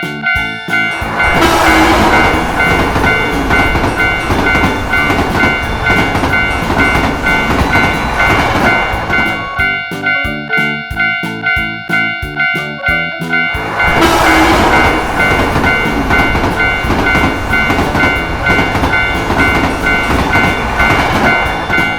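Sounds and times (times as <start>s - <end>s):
level crossing bell clanging: 0.0s - 21.9s
train rumbling past: 0.0s - 21.9s.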